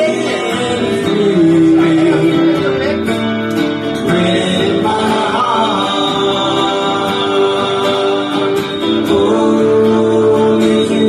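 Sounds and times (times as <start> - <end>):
guitar accompaniment: 0.0 - 11.0
man singing: 0.0 - 11.0.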